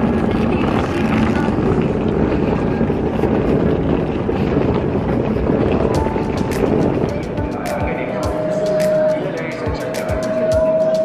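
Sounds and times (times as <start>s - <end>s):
suitcase wheels rolling on asphalt: 0.0s - 10.0s.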